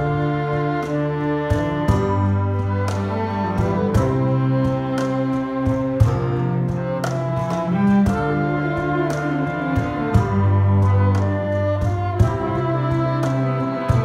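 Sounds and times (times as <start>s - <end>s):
cellos violin and flute playing hymn: 0.0s - 14.0s.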